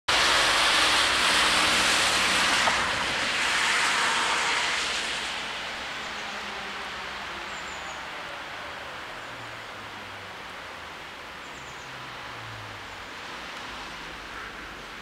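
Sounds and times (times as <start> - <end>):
car tyres hissing on wet road: 0.1 - 15.0.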